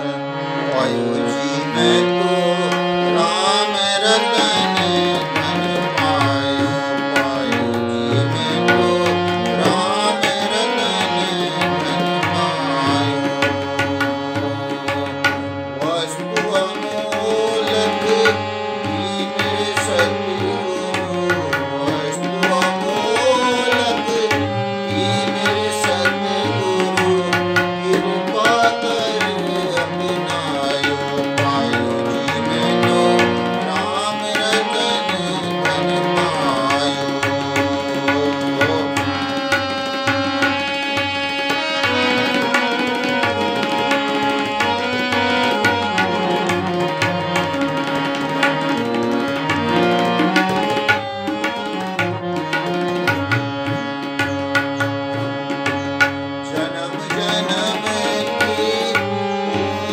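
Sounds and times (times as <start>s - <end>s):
harmonium chords and melody: 0.0s - 59.9s
man singing: 0.0s - 59.9s
tabla rhythm: 0.0s - 59.9s.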